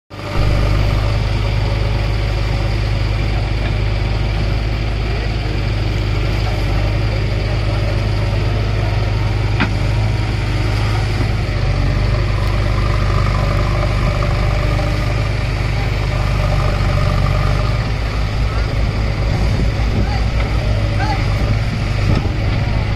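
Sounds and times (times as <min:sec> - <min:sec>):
diesel engine droning: 0:00.1 - 0:22.9.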